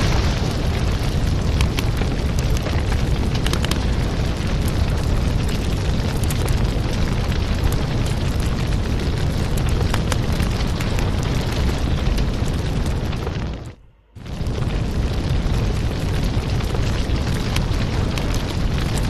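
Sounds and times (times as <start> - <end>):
fire roaring: 0.0 - 19.0
wood crackling and popping: 0.0 - 19.0.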